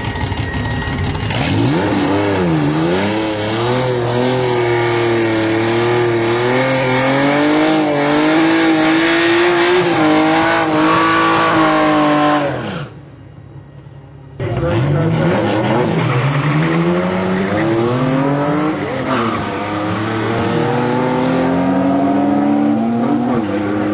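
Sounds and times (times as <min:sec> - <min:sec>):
car engine revving hard: 0:01.2 - 0:13.0, 0:14.4 - 0:23.9.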